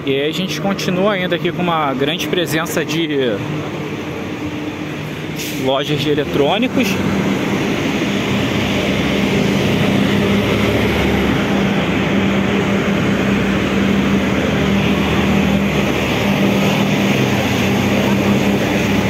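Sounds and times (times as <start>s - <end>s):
cars and buses passing: 0.0s - 19.0s
vehicle engines humming: 0.0s - 19.0s.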